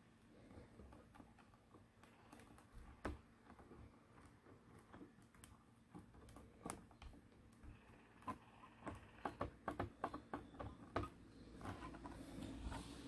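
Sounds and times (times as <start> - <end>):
fingertips tapping on plastic: 0.6 - 12.6.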